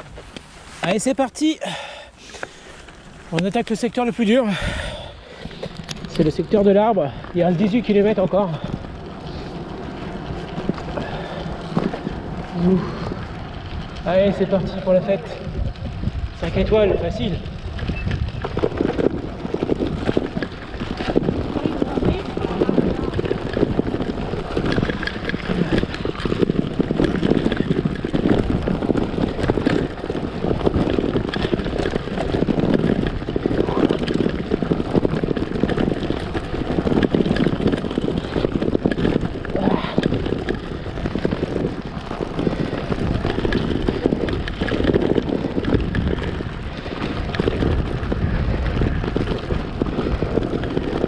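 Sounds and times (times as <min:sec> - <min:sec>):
bike rattling over cobblestones: 0:00.0 - 0:51.0.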